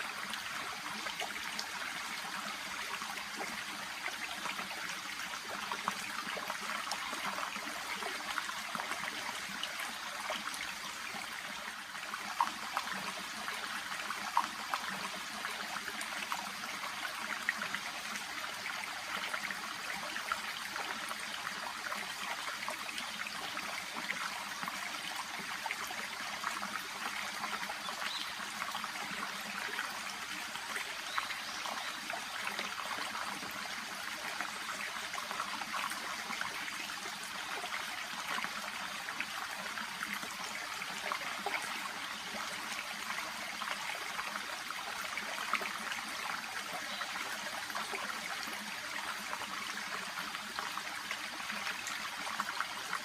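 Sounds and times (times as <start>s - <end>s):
babbling brook: 0.0s - 53.0s.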